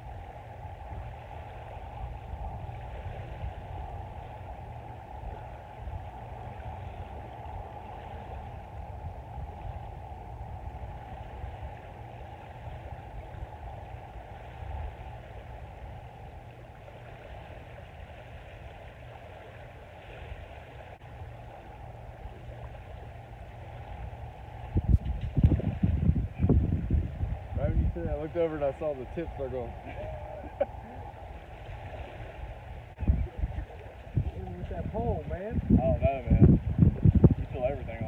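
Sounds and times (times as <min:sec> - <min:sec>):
small waves washing onto sand: 0:00.0 - 0:38.0
wind rumbling on microphone: 0:00.0 - 0:38.0.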